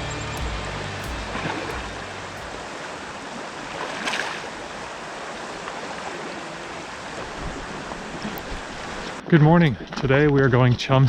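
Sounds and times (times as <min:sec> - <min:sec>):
river water rushing: 0:00.0 - 0:09.2.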